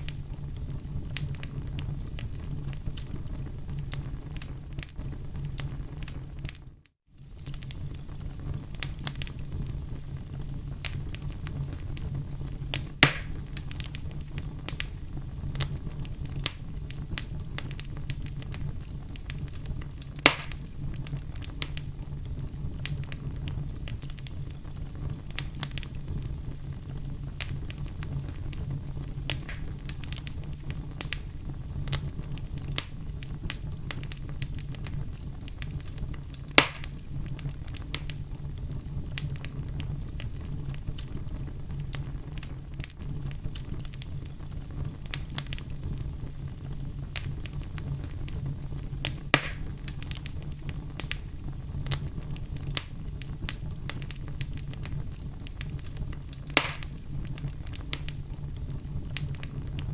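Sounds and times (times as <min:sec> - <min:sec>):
loud fire pops: 0:00.0 - 0:59.9
wood fire crackling: 0:00.0 - 0:59.9.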